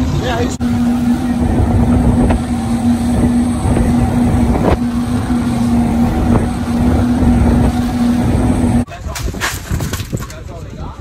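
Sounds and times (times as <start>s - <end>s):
outboard motors droning: 0.0s - 9.4s.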